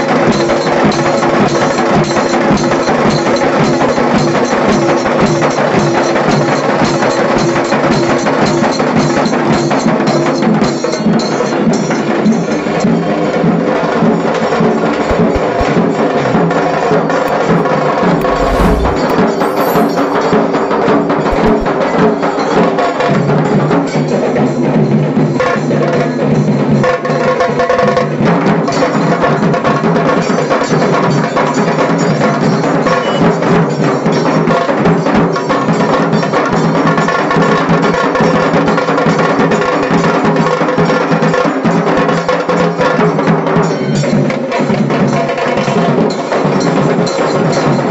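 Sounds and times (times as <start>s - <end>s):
dhol drums beat: 0.0s - 16.0s, 23.0s - 47.9s.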